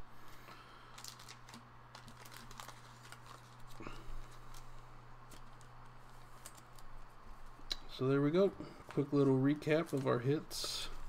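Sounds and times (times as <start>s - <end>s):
steady low hum: 0.0s - 11.0s
cards and plastic sleeve crinkling: 0.7s - 7.7s, 8.7s - 11.0s.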